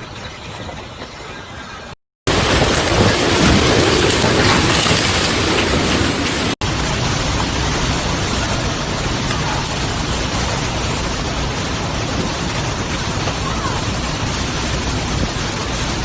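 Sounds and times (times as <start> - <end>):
driving rain: 2.2 - 16.0
gusts buffeting microphone: 2.3 - 16.0
strong storm wind: 2.3 - 16.0.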